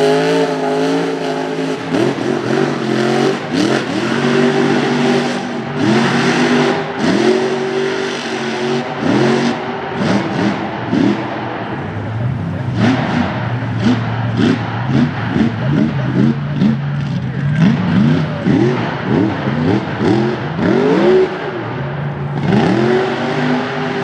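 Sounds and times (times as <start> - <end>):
truck engine revving hard: 0.0 - 24.0
clatter: 1.6 - 24.0.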